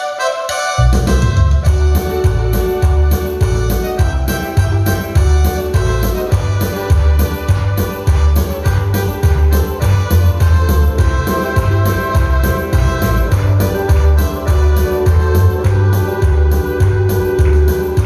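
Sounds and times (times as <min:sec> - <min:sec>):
organ-like keyboard chords: 0:00.0 - 0:18.0
pulsing bass beat: 0:00.8 - 0:18.0.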